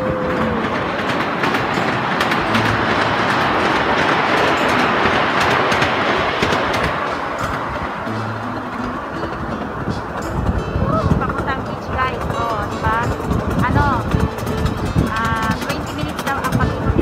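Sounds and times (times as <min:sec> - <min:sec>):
track clicks and rattles: 0:00.0 - 0:17.0
train wheels rumbling: 0:00.0 - 0:17.0.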